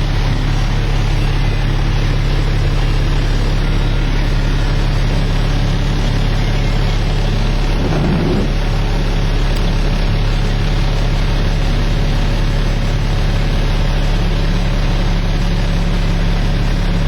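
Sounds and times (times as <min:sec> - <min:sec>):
diesel truck engine running: 0:00.0 - 0:17.0
louder engine rumble: 0:00.0 - 0:17.0.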